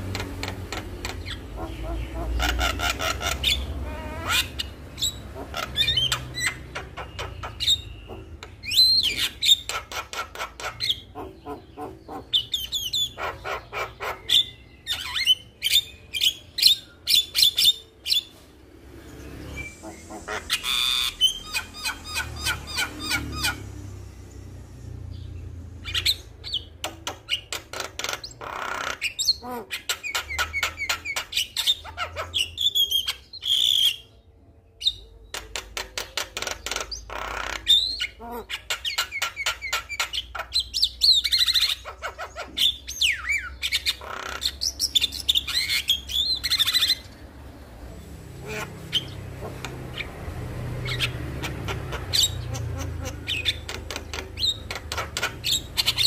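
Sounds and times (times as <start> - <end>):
myna bird chattering and whistling: 0.0 - 18.5, 19.4 - 23.7, 25.1 - 34.2, 34.8 - 47.3, 48.4 - 56.0.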